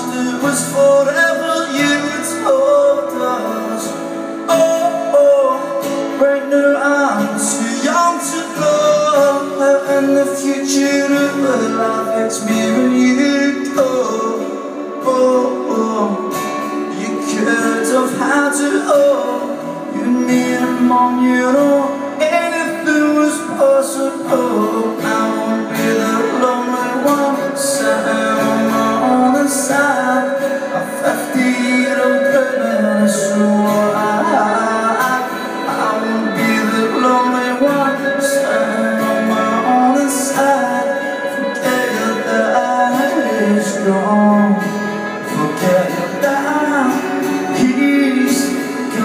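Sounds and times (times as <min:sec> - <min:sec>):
acoustic guitars strummed: 0:00.0 - 0:49.0
man singing: 0:00.0 - 0:49.0.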